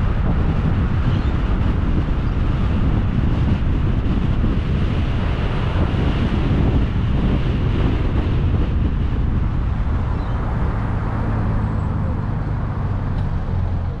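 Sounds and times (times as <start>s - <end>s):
car road noise rumble: 0.0s - 14.0s
wind noise on microphone: 0.0s - 14.0s.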